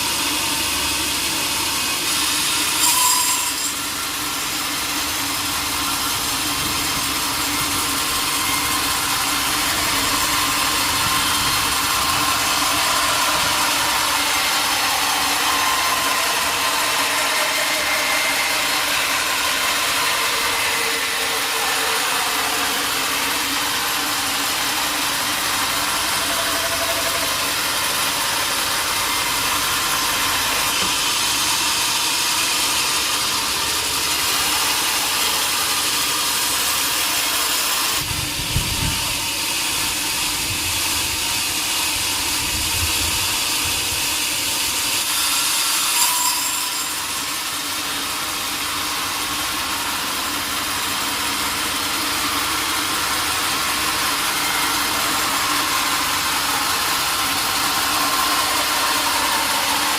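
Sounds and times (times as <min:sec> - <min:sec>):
saw blade cutting log: 0:00.0 - 0:59.9.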